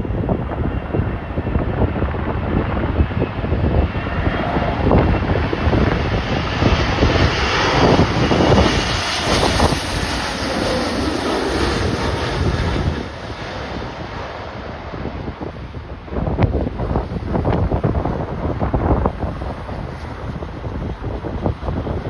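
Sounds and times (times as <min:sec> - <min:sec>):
jet airliner engines passing: 0:00.0 - 0:22.0
wind buffeting microphone: 0:00.0 - 0:22.0.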